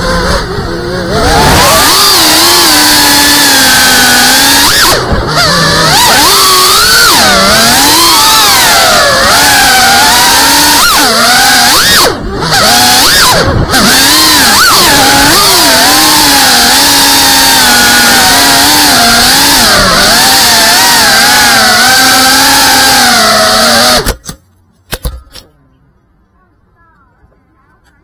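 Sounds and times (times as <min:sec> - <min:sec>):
drone motors whining: 0:00.0 - 0:24.4.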